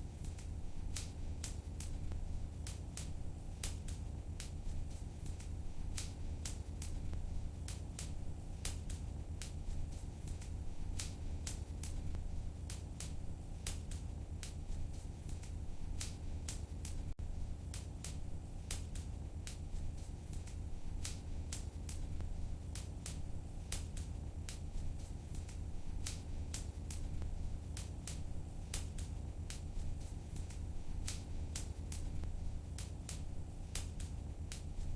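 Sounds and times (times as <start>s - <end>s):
low rumble of fire: 0.0s - 34.9s
wood fire crackling: 0.0s - 34.9s.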